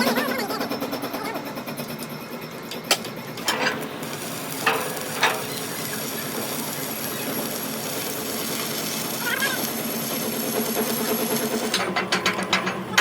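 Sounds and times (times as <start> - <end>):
hissing workshop noise: 0.0 - 13.0.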